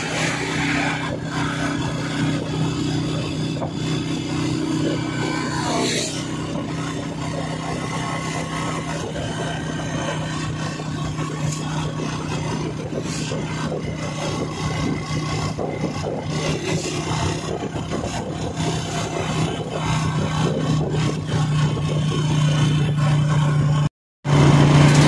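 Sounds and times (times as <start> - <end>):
road noise: 0.0 - 25.0
vehicle engine running: 0.0 - 25.0
wind noise on microphone: 0.0 - 25.0.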